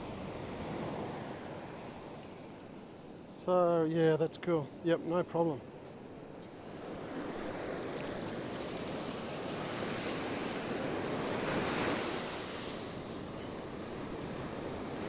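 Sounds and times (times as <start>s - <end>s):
ocean surf breaking on sand: 0.0s - 15.0s.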